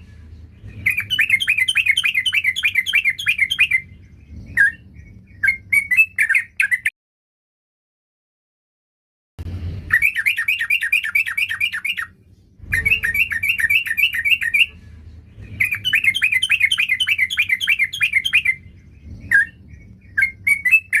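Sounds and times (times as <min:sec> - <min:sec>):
bird singing quick chirps: 0:00.6 - 0:06.9, 0:09.9 - 0:21.0.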